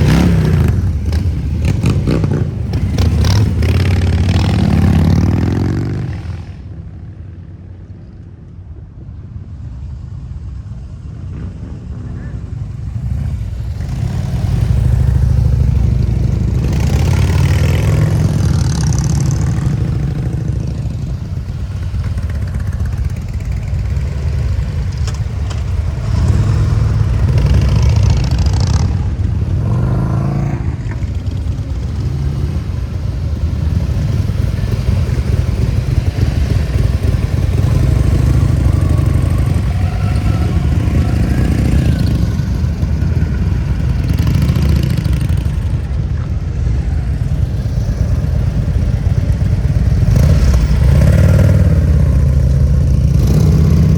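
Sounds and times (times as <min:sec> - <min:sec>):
motorcycle engines rumbling: 0:00.0 - 0:53.9.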